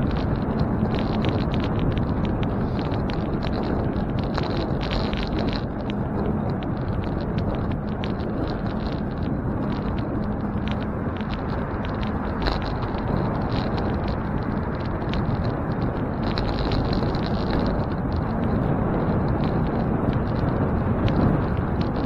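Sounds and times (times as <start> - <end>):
light irregular ticks: 0.0 - 22.0
wind and road noise rumble: 0.0 - 22.0.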